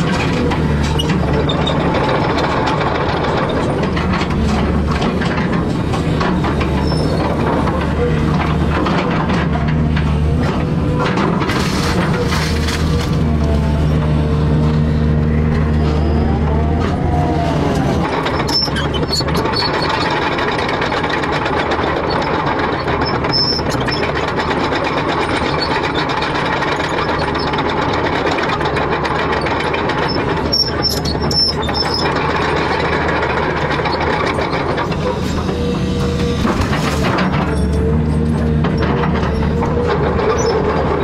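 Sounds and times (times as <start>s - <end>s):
heavy machinery running: 0.0s - 41.0s.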